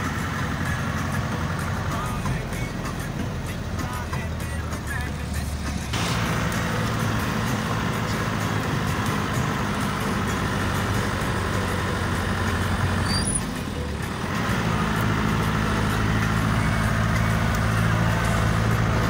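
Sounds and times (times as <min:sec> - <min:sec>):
car engine and tyre drone: 0:00.0 - 0:19.0.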